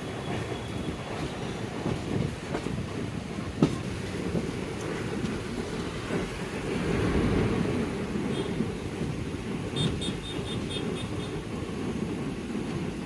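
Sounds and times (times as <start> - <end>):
train running along track: 0.0 - 13.0
wheels clicking over rails: 0.0 - 13.0.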